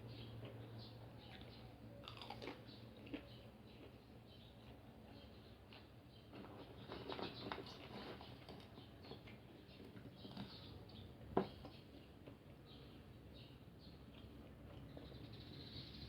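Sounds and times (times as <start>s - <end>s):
soft chewing: 0.0s - 16.0s.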